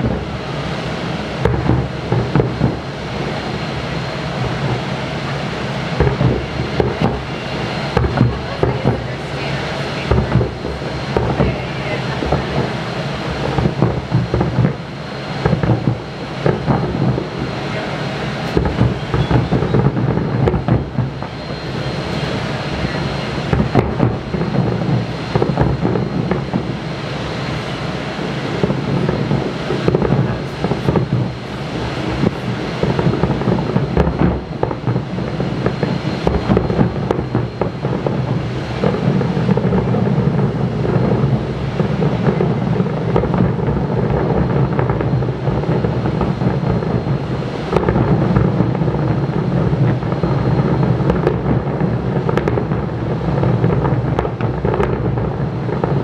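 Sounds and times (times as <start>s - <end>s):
fireworks bangs and crackles: 0.0s - 56.0s
steady rumble: 0.0s - 56.0s.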